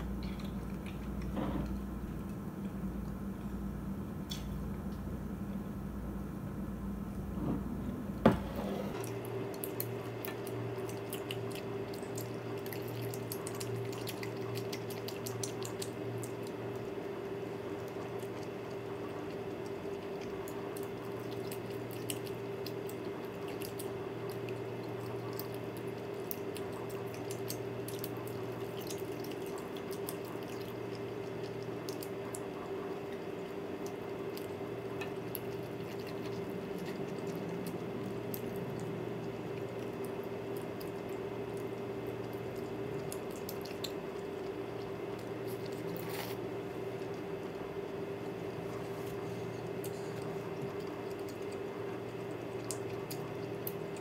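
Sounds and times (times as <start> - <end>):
wet chewing: 0.0 - 3.6, 9.0 - 54.0.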